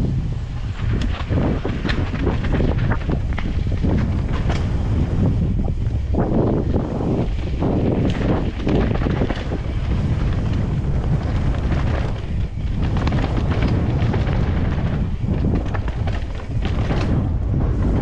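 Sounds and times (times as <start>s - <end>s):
bike rumbling and clattering on trail: 0.0s - 18.0s
wind buffeting microphone: 0.0s - 18.0s.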